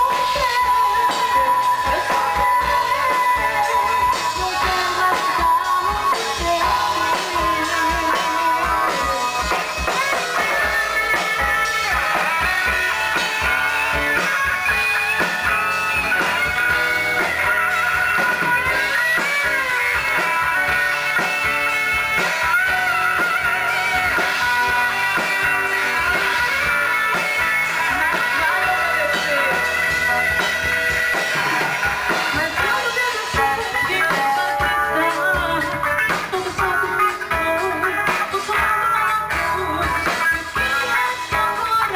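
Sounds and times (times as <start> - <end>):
guitar melody: 0.0 - 41.9
live band playing: 0.0 - 41.9.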